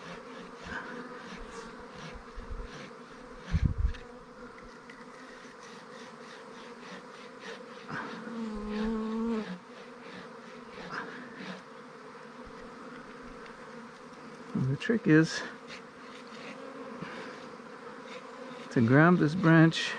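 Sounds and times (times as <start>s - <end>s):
honeybees buzzing: 0.0s - 19.9s
single bee hovering close: 0.0s - 19.9s.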